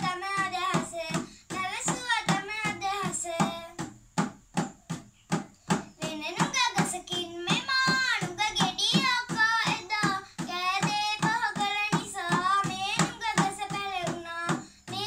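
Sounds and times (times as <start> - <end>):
girl singing in high voice: 0.0 - 3.8, 6.0 - 15.0
frame drum beats: 0.0 - 15.0.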